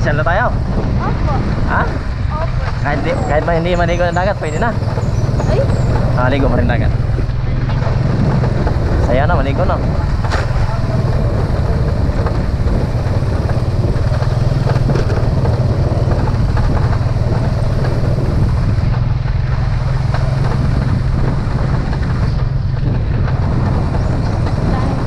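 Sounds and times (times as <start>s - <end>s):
motorcycle engine running: 0.0s - 25.0s
road and air noise: 0.0s - 25.0s.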